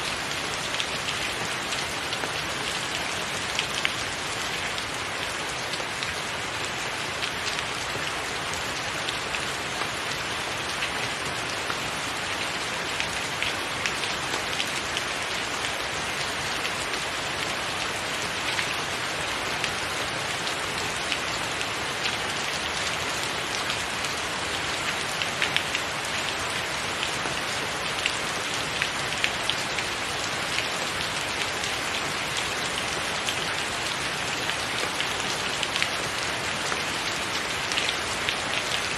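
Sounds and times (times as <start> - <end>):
rain on a tiled roof: 0.0 - 38.9.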